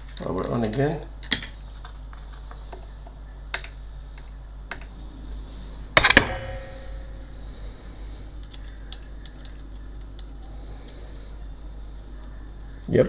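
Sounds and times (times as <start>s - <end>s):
loud clicks: 0.0s - 12.9s
faint ringing tone: 0.0s - 13.0s
steady low hum: 0.0s - 13.0s.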